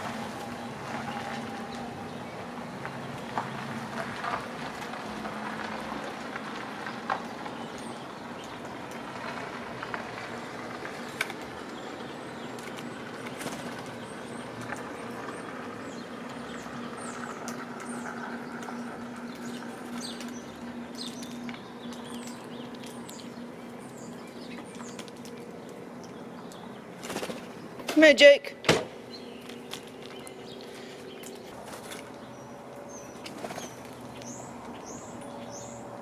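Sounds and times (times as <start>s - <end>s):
small birds chirping: 6.4s - 28.2s, 28.9s - 36.0s.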